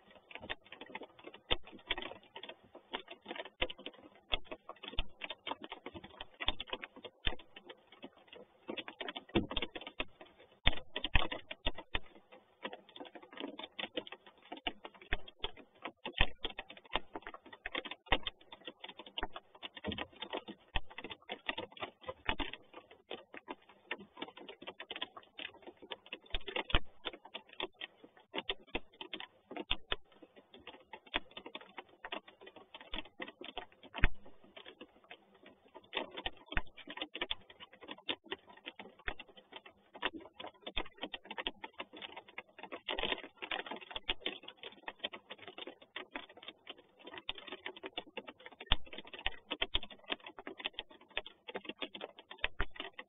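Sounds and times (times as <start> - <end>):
rain drops striking a box: 0.0 - 53.0.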